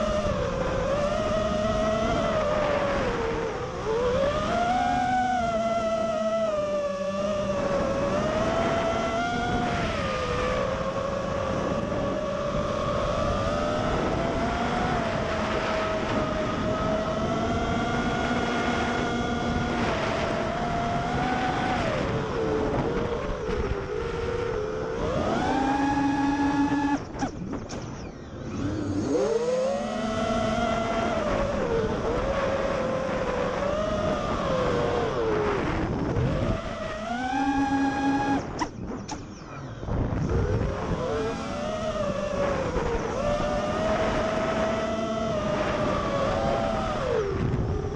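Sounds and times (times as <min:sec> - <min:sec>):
quadcopter motors whining: 0:00.0 - 0:47.9.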